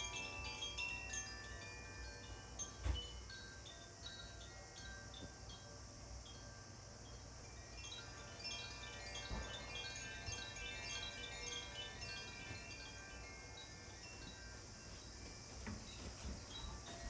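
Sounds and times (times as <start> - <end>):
chimes ringing: 0.0 - 17.0.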